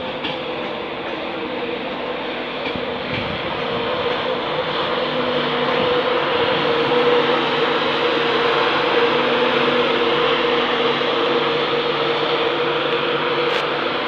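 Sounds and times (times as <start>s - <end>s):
locomotive humming: 0.0s - 14.0s.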